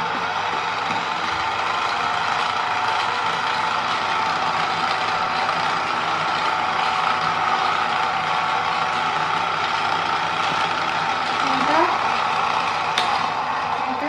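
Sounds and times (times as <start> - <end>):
toy motor and wheels whirring: 0.9 - 12.7.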